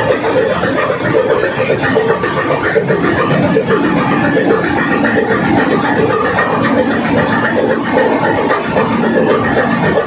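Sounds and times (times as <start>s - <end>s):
ship diesel engine running: 0.0s - 10.0s.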